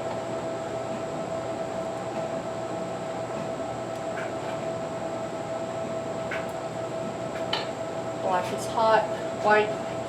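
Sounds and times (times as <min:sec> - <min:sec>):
machine hum with whine: 0:00.0 - 0:10.0.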